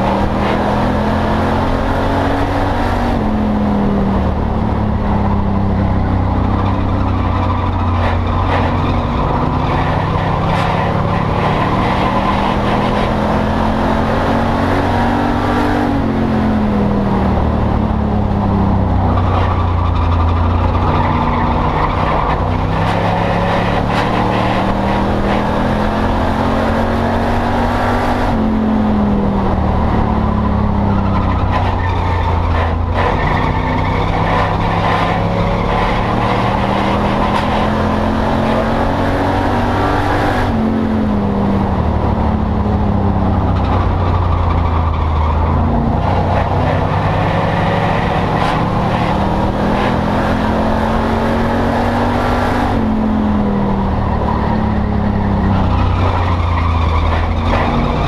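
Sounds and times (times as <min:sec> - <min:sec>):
race car engine at full throttle: 0:00.0 - 0:58.0.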